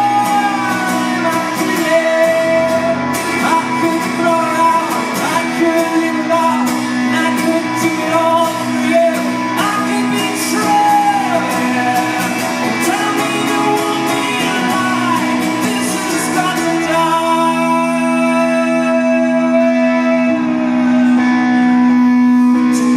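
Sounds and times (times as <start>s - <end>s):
man singing loudly: 0.0s - 21.5s
strummed acoustic guitar: 0.0s - 22.9s.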